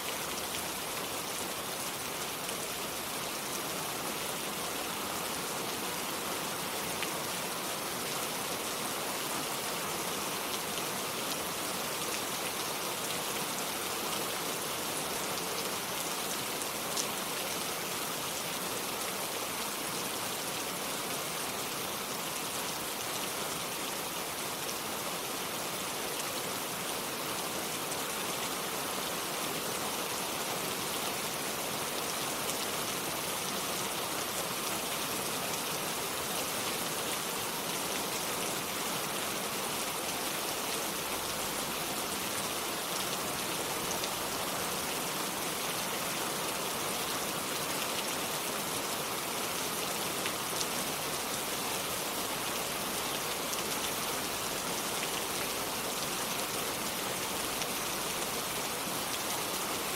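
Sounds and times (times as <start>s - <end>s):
rain drops ticking on surfaces: 0.0s - 59.9s
steady rain hiss: 0.0s - 59.9s.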